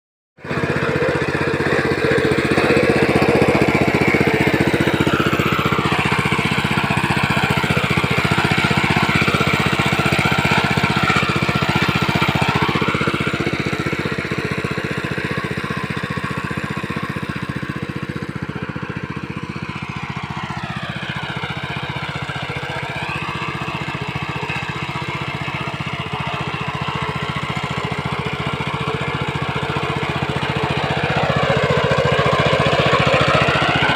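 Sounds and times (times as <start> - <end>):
small tractor engine running: 0.4 - 33.9.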